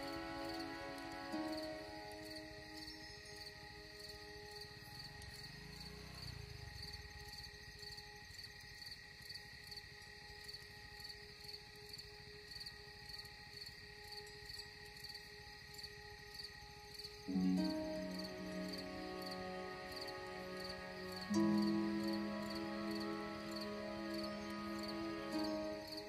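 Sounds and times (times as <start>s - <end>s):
insect chirping: 0.0s - 26.0s.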